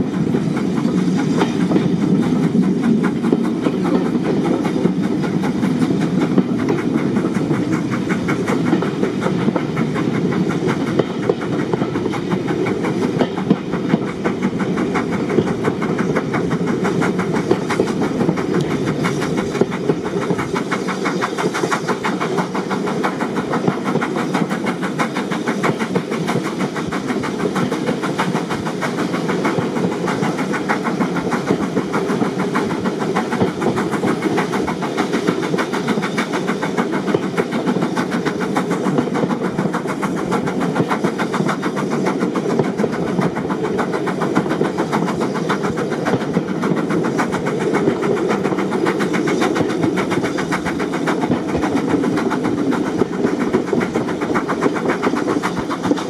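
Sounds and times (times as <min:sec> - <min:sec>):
fast rail clicking: 0:00.0 - 0:56.0
train wheels rumbling on rails: 0:00.0 - 0:56.0.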